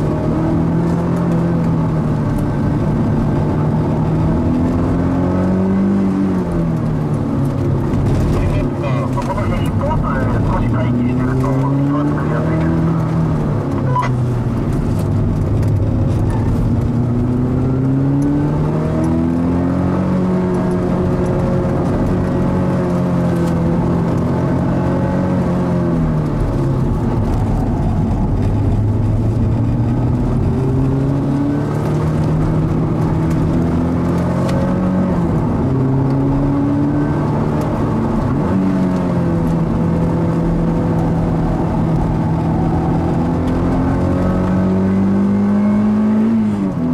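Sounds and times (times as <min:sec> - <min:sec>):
car engine revving under acceleration: 0:00.0 - 0:46.9.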